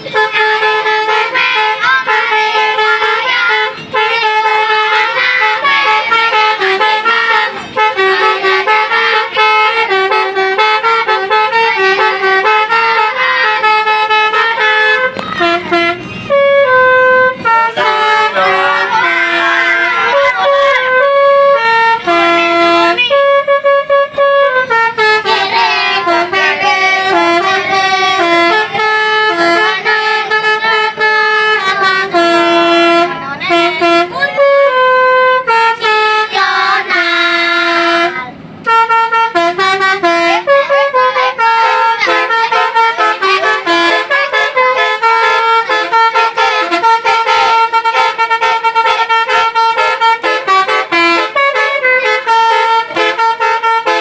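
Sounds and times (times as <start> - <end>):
multi-tone air horn tune: 0.0 - 54.0.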